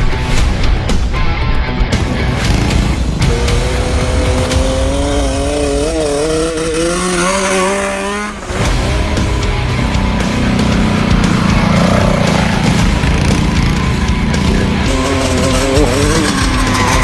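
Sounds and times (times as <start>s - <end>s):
small engine accelerating: 2.1s - 17.0s.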